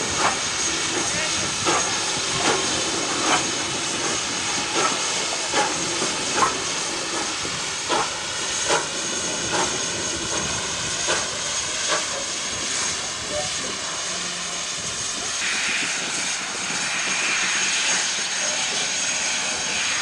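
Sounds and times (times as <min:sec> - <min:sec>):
steam hissing: 0:00.0 - 0:20.0
steam locomotive puffs: 0:00.0 - 0:20.0.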